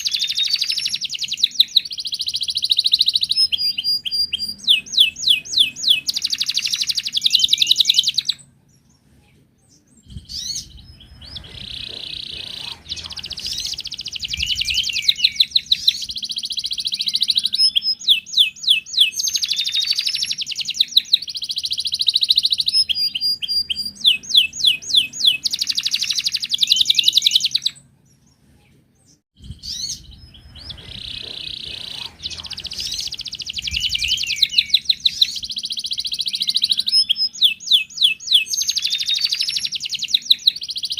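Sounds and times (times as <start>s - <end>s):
canary singing trilled song: 0.0s - 28.4s, 29.0s - 40.9s.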